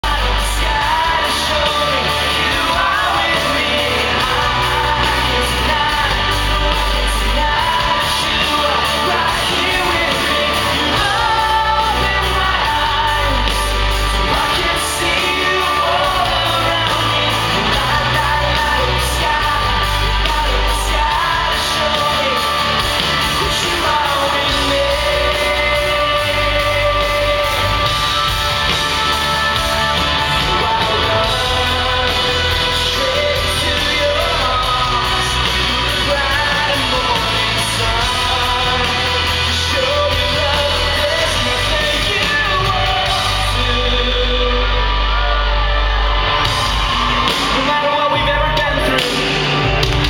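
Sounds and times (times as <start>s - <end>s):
live rock band playing: 0.0s - 50.0s
male singer: 0.0s - 50.0s.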